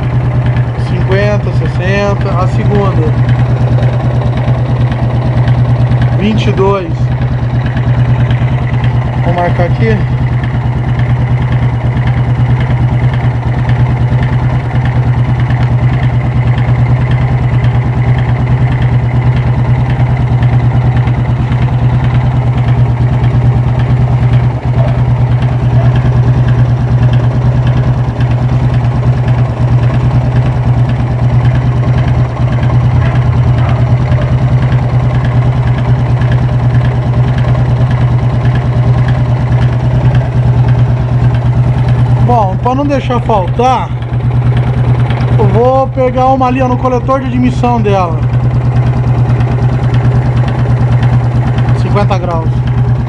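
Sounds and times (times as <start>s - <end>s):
motorcycle engine idling unevenly: 0.0s - 53.0s.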